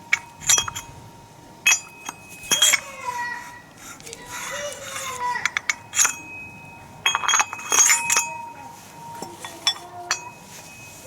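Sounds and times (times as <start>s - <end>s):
metal tools clinking: 0.0s - 1.0s, 1.6s - 11.0s.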